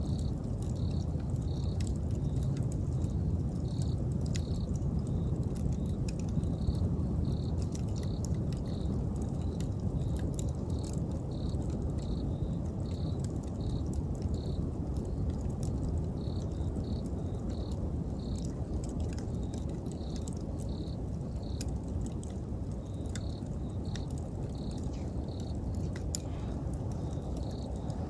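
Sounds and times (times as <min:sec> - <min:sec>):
insect chirping: 0:00.0 - 0:15.2, 0:16.1 - 0:28.0
wood fire crackling: 0:00.0 - 0:28.0.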